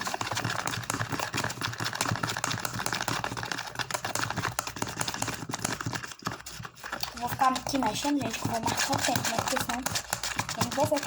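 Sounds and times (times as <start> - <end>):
slime stirred with sticky clicks: 0.0 - 11.0.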